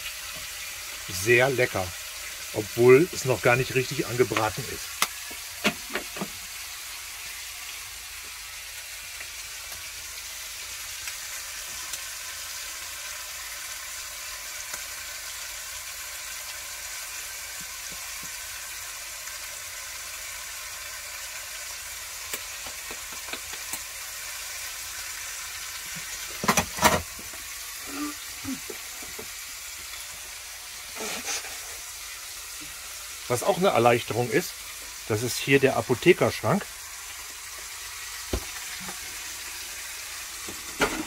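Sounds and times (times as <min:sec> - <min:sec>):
meat sizzling in a pot: 0:00.0 - 0:41.0.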